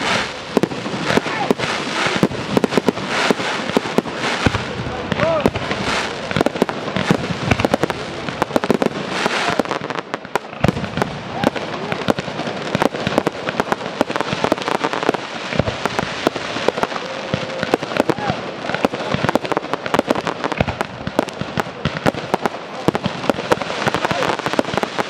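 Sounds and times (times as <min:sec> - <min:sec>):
fireworks bangs: 0:00.0 - 0:25.0
fireworks pops and crackles: 0:00.0 - 0:25.0.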